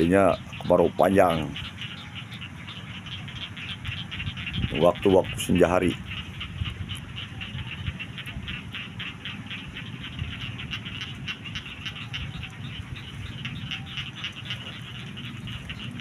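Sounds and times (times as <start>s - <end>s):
frogs calling in chorus: 0.0s - 16.0s
low steady rumble: 0.0s - 16.0s.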